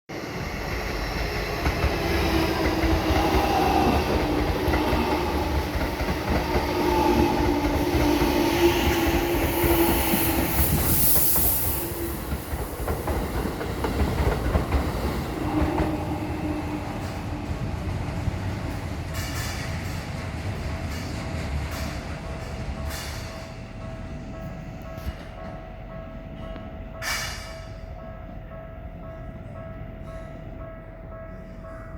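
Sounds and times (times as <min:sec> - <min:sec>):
electric train rumbling past: 0:00.1 - 0:31.9.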